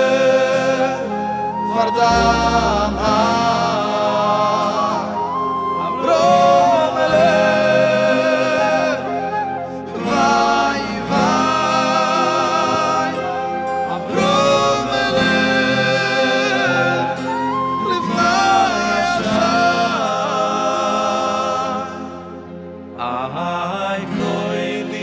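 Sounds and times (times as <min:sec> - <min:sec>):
acoustic guitar flute and keyboard: 0:00.0 - 0:25.0
men singing slow melody: 0:00.0 - 0:25.0.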